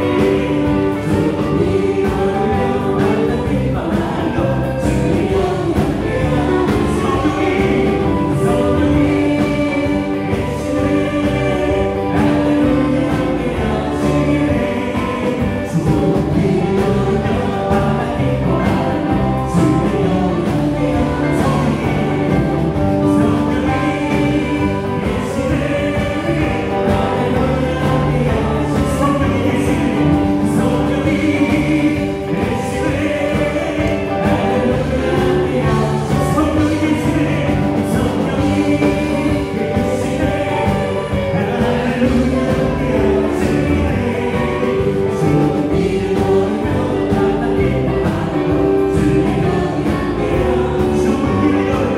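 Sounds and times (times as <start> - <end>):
group of voices singing: 0.0 - 51.9
worship band playing: 0.0 - 51.9.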